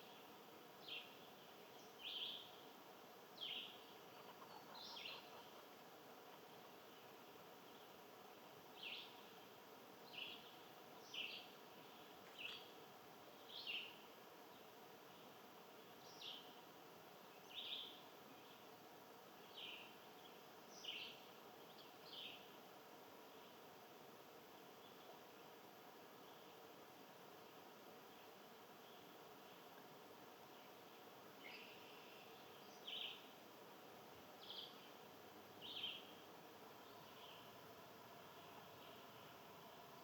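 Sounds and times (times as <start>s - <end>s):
songbird chirping: 0.0s - 23.7s, 24.5s - 40.0s
steady outdoor hiss: 0.0s - 40.0s.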